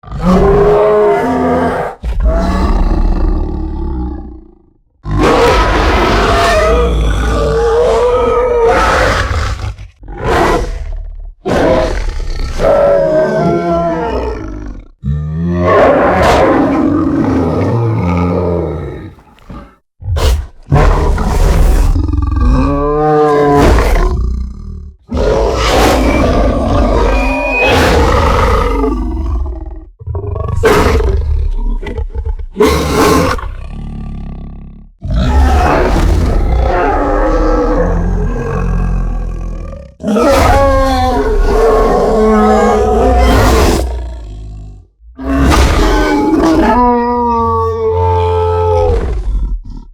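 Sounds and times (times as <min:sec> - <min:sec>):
growling monster roars: 0:00.0 - 0:49.9.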